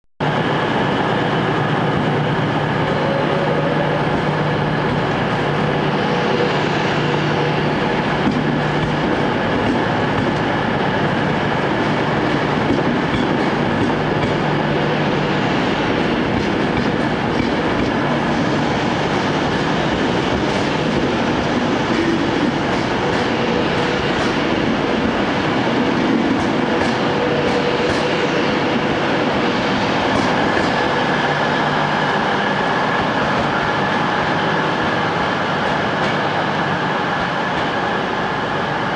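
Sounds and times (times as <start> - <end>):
electric train hum: 0.2 - 38.9
train wheel running noise: 0.3 - 38.9.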